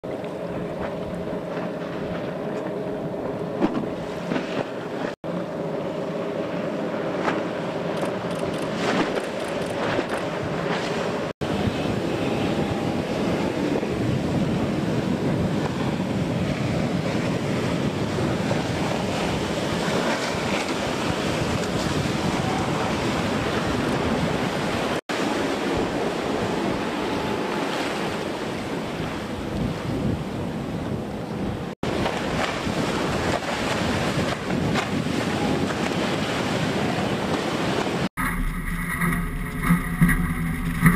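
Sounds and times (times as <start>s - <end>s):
outboard engines droning: 0.0s - 40.9s.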